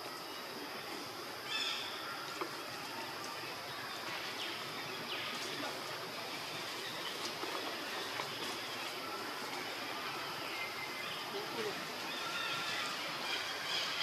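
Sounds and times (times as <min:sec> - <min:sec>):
steady forest hiss: 0:00.0 - 0:14.0.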